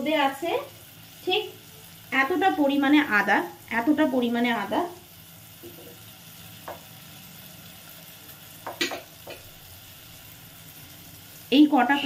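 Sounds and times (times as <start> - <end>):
vegetables sizzling in a pot: 0.0 - 12.0.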